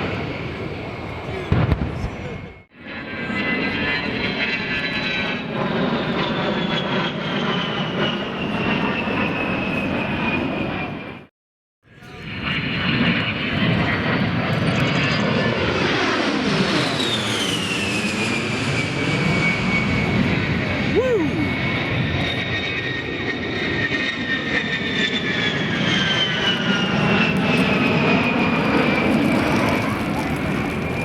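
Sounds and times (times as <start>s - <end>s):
jet aircraft flying past: 0.0s - 11.3s, 11.9s - 31.0s.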